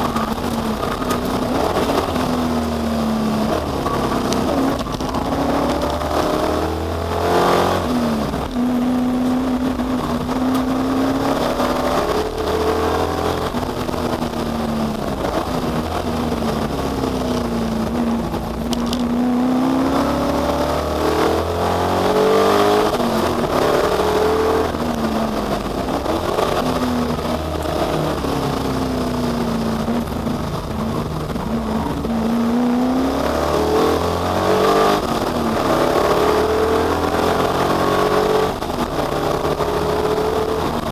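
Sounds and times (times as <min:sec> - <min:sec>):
race car engine accelerating: 0:00.0 - 0:40.9.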